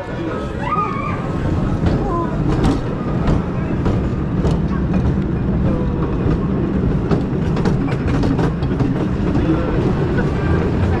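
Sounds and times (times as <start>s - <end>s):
roller coaster wheel rumble: 0.0s - 11.0s
track clicks and clacks: 1.8s - 11.0s.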